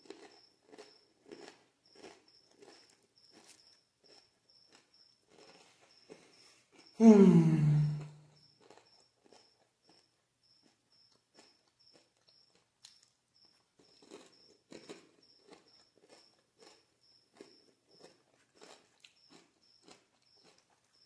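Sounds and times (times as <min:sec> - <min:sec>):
chewing crunchy food: 0:00.0 - 0:07.0, 0:07.6 - 0:21.0
cricket chirping: 0:00.0 - 0:21.0.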